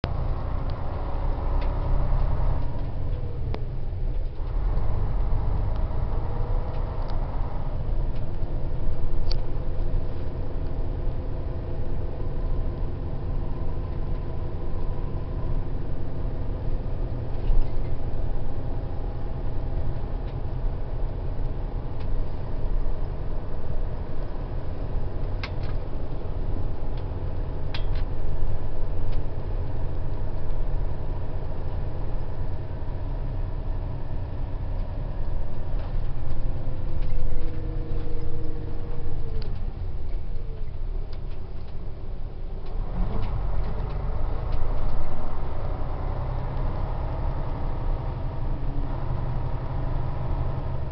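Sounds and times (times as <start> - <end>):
coach engine rumble: 0.0 - 50.9.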